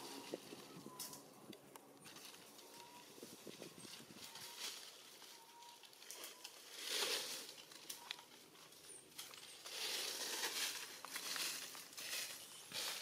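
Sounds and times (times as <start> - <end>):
sharp crackles: 0.0 - 13.0
leaves crunching underfoot: 2.0 - 13.0.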